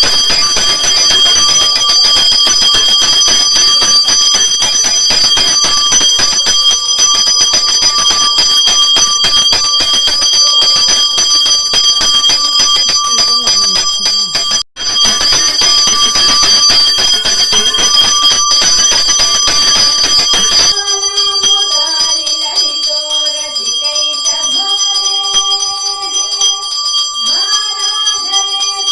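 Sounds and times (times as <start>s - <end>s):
hand bell ringing fast: 0.0s - 28.9s.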